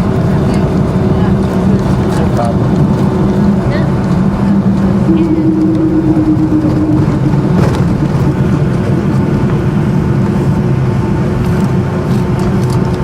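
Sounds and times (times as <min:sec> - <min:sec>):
aircraft engines rumbling in cabin: 0:00.0 - 0:13.0.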